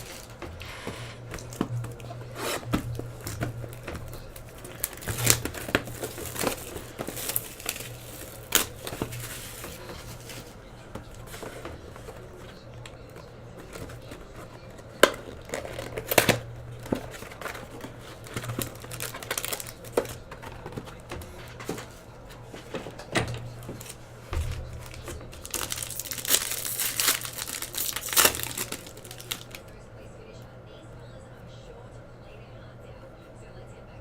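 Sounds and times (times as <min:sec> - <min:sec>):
card packs tearing: 0:00.0 - 0:21.9, 0:23.4 - 0:29.6
plastic wrapping crinkling: 0:00.0 - 0:22.0, 0:22.7 - 0:29.7
low steady hum: 0:00.0 - 0:34.0.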